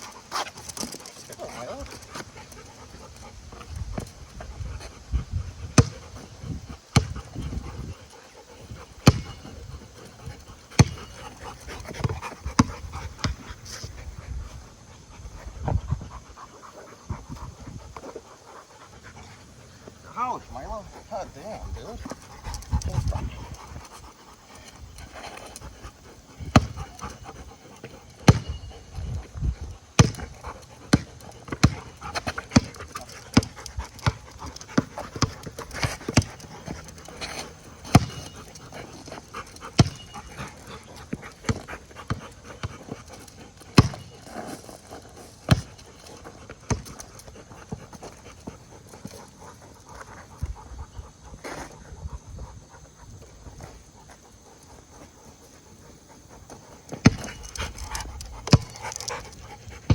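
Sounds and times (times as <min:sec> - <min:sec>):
dog panting: 0:00.0 - 0:59.9.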